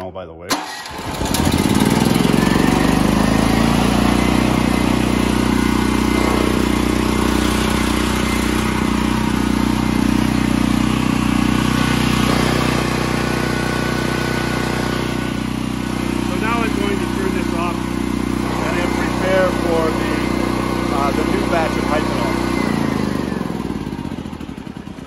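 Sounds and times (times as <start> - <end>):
portable generator running: 0.5 - 25.0.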